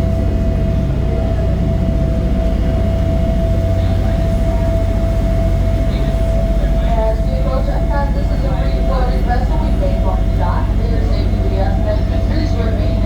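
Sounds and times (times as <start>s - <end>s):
constant whine: 0.0s - 13.0s.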